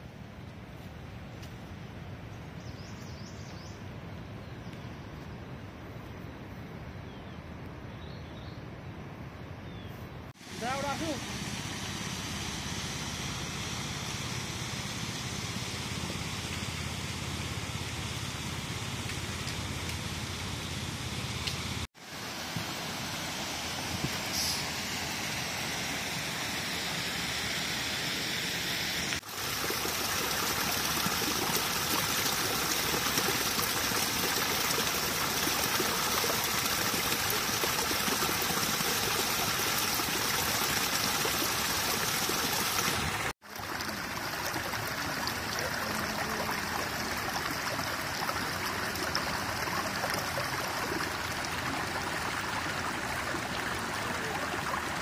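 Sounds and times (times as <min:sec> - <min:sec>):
stream water rushing: 0:10.4 - 0:55.0.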